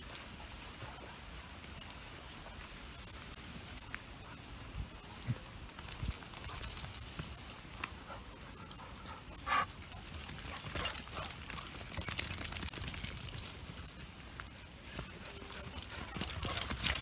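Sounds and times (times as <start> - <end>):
footsteps on muddy path: 0.0 - 17.0.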